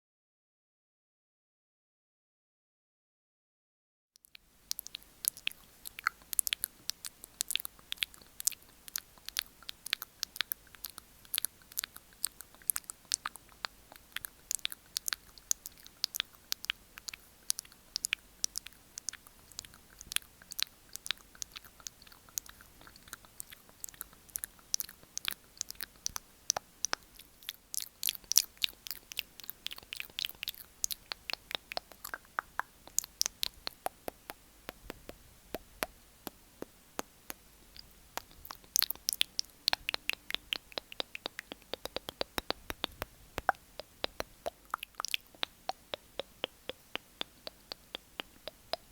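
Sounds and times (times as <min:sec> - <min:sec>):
tongue clicks and mouth smacks: 0:04.2 - 0:48.9.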